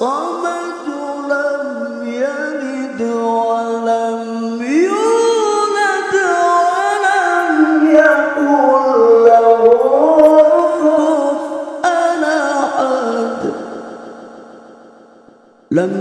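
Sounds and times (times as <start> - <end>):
man reciting melodically: 0.0 - 15.1, 15.7 - 16.0.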